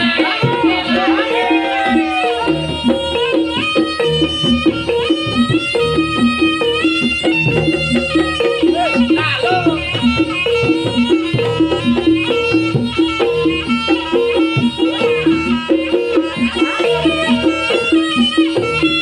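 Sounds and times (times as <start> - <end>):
reedy wind melody: 0.0 - 19.0
struck pitched percussion pattern: 0.0 - 19.0.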